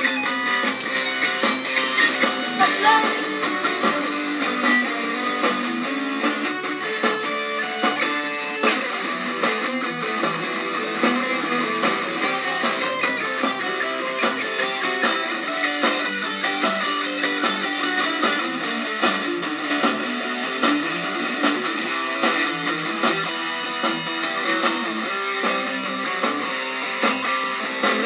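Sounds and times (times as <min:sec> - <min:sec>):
electric guitar strumming: 0:00.0 - 0:28.0.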